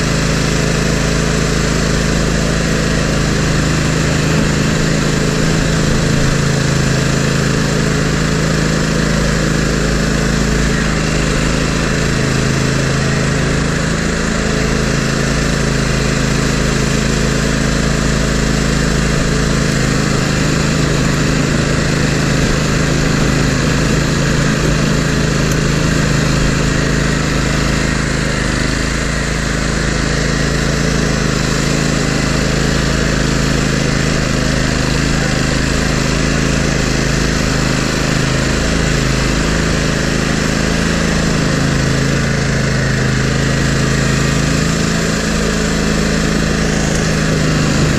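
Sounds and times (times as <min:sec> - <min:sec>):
engine running under load: 0:00.0 - 0:47.9
plow blade pushing snow: 0:00.0 - 0:47.9.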